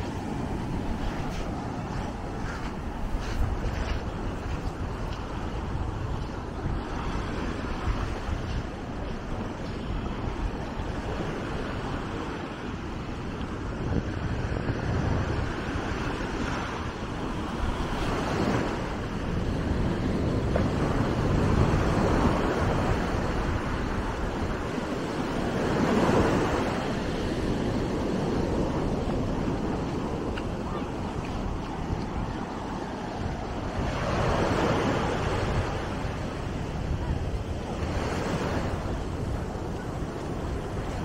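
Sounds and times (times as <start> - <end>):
surf breaking on a beach: 0.0 - 41.0.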